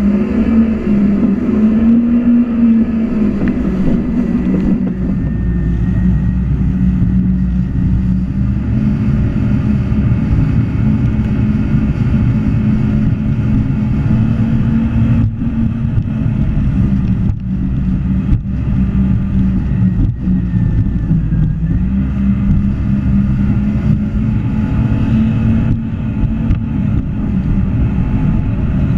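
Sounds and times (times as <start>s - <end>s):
jet ski engine running: 0.0s - 28.9s.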